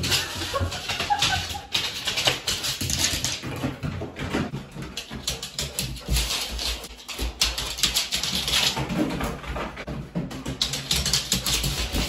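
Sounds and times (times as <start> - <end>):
dog moving on wooden floor: 0.0 - 12.0.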